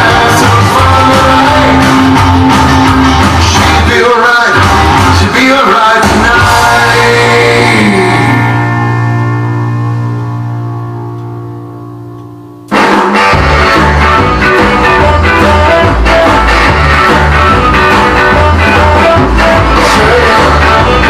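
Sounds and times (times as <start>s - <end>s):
rock and roll music: 0.0s - 21.0s.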